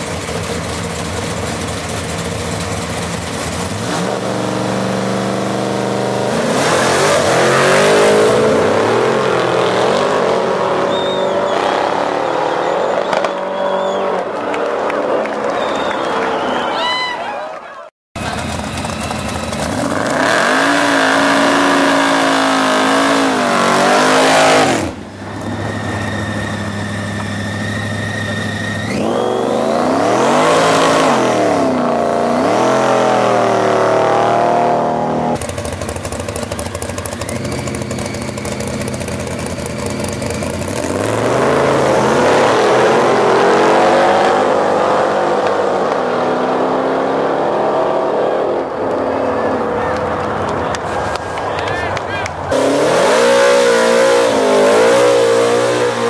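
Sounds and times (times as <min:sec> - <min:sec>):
car engines revving and accelerating: 0:00.0 - 0:16.5, 0:18.2 - 0:56.0.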